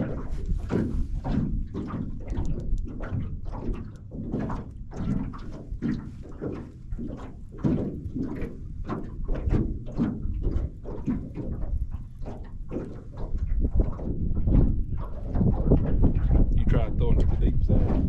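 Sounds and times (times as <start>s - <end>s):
waves slapping against metal hull: 0.0s - 18.0s
wind rumble on microphone: 0.0s - 18.0s.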